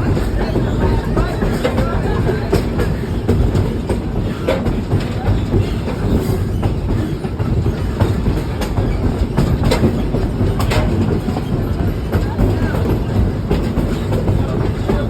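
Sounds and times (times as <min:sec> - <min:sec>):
train rumbling on rails: 0:00.0 - 0:15.0
wheels clicking over track: 0:00.0 - 0:15.0.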